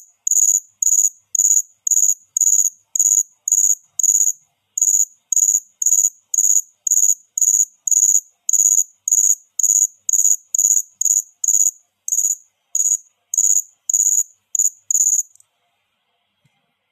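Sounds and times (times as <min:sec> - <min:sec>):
cricket chirping: 0:00.0 - 0:15.4.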